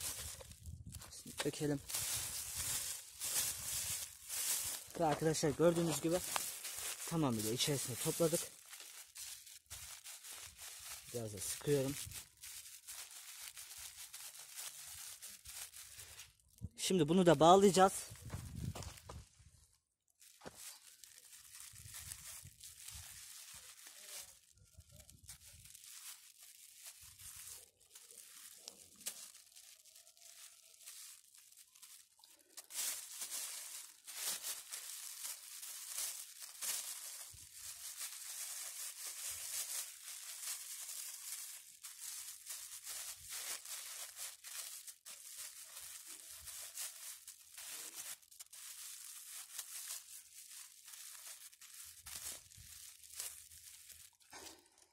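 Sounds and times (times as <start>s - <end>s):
plastic bag crinkling and rustling: 0.0s - 54.9s.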